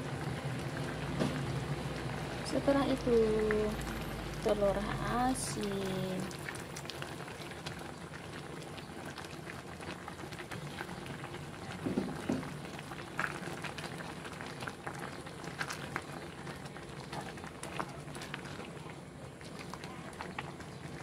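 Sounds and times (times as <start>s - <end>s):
soup boiling and bubbling: 0.0s - 21.0s.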